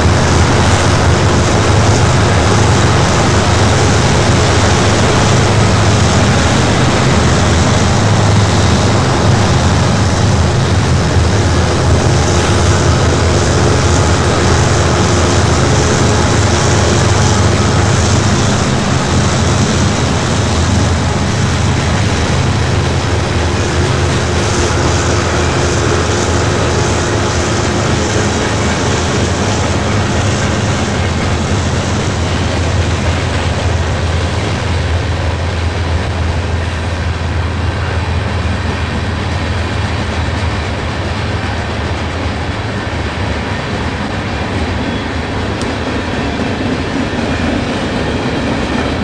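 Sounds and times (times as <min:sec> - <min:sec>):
freight cars rolling past: 0:00.0 - 0:49.0.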